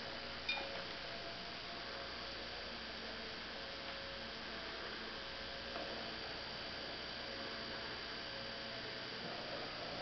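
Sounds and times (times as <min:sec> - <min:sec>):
electrical hum and hiss: 0:00.0 - 0:10.0.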